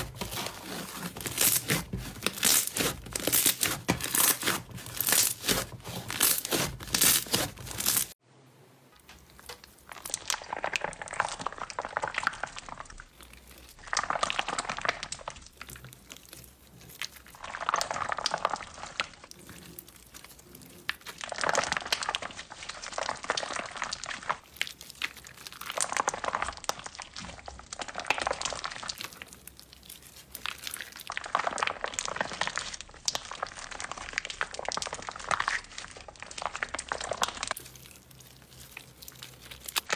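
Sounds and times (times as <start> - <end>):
slime crackling and popping: 0.0 - 8.2, 9.1 - 39.9.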